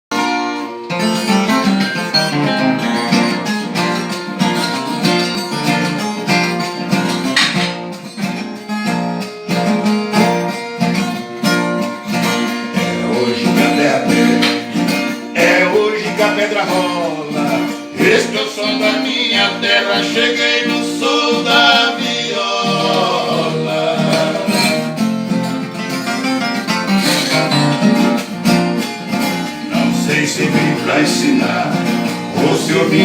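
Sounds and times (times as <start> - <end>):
folk guitar plucked and strummed: 0.1 - 33.0.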